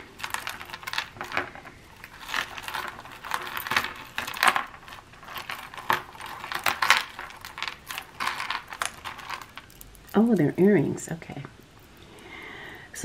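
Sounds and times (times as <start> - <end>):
jewelry clinking and rattling: 0.0 - 12.1.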